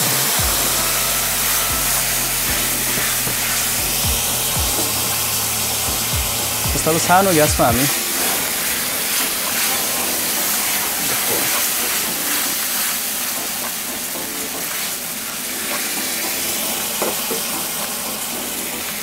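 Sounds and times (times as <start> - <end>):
pan flaring up: 0.0 - 19.0
sauce sizzling in frying pan: 0.5 - 19.0.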